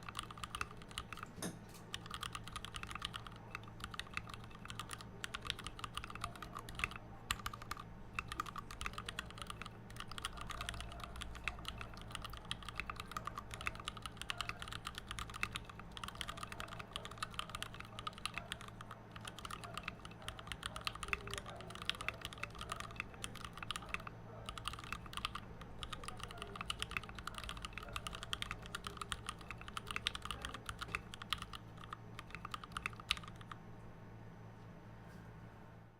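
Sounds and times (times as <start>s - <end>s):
fast typing on mechanical keyboard: 0.0s - 33.6s.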